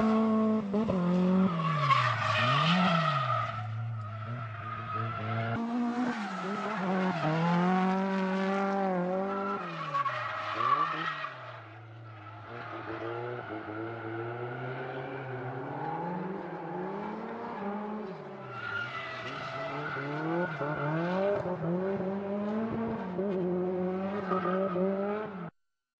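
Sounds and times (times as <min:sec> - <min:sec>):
car engine revving: 0:00.0 - 0:18.3, 0:19.2 - 0:25.5
tyres skidding and squealing: 0:00.0 - 0:25.5.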